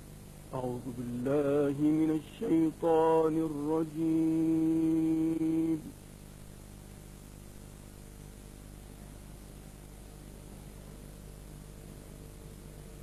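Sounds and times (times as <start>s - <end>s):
low electrical hum: 0.0s - 13.0s
steady hiss: 0.0s - 13.0s.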